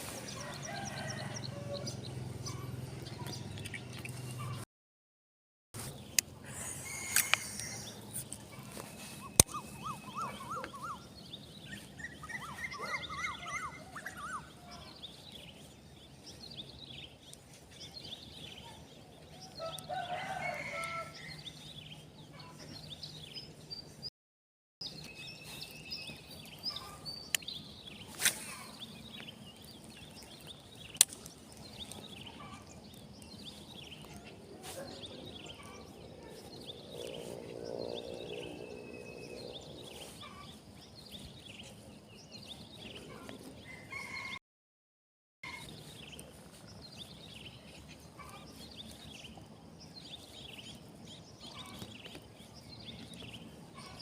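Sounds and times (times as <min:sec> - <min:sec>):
birds chirping: 0:00.0 - 0:04.6, 0:05.8 - 0:24.1, 0:24.8 - 0:44.4, 0:45.4 - 0:54.0.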